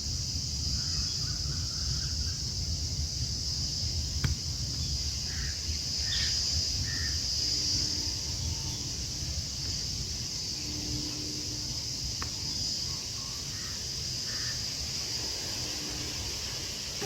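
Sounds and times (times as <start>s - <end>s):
insect chorus: 0.0s - 17.0s
low outdoor rumble: 0.0s - 17.0s.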